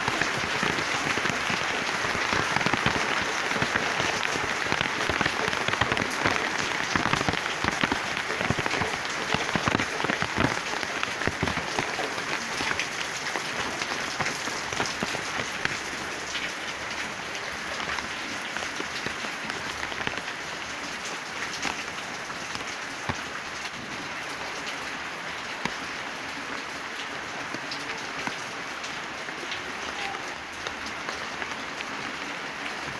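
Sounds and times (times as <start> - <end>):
rain falling on leaves: 0.0 - 32.9.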